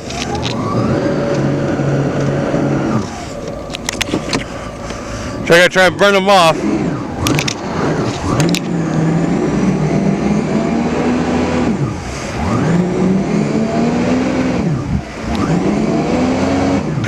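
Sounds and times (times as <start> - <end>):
watercraft engine revving: 0.0 - 17.0.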